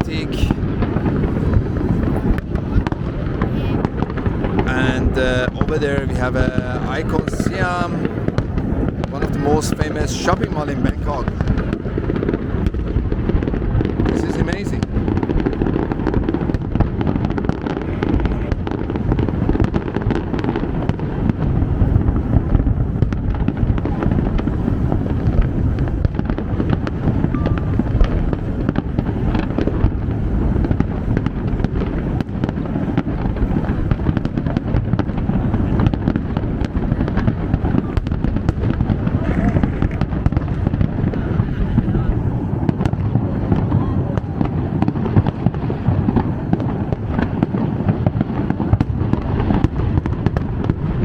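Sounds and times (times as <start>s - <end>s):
distant fireworks rumble: 0.0s - 51.0s
fireworks bangs and crackles: 0.0s - 51.0s.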